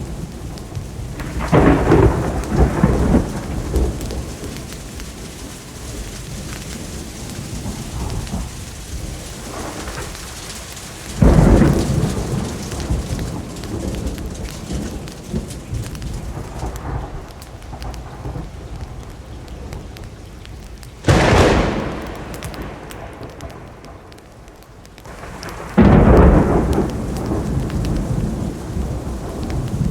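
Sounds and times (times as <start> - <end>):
steady rainfall: 0.0 - 29.9
thunder claps: 0.0 - 29.9.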